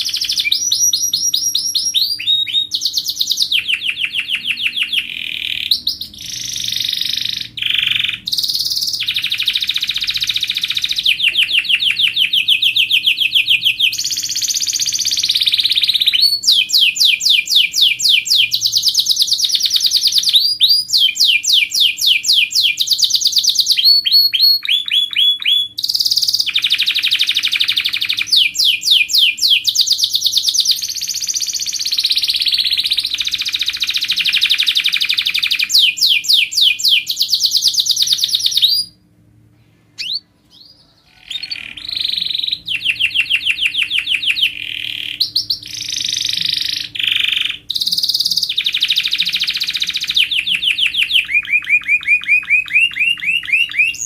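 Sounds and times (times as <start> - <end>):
canary singing: 0.0 - 39.1, 39.7 - 54.0.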